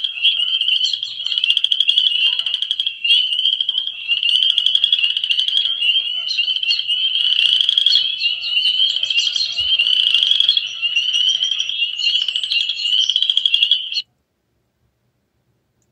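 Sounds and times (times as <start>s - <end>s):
frogs chorus trilling: 0.0s - 14.0s.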